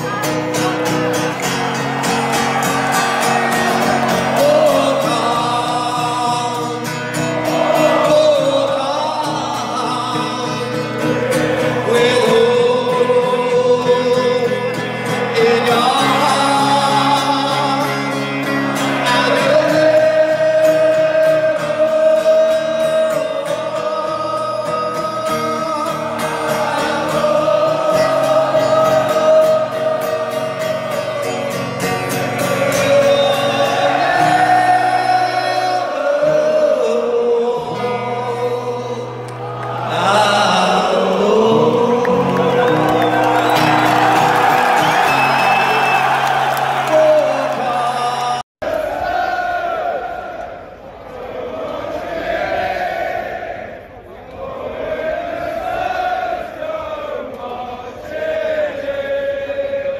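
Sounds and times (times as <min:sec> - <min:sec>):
crowd singing in unison: 0:00.0 - 0:59.9.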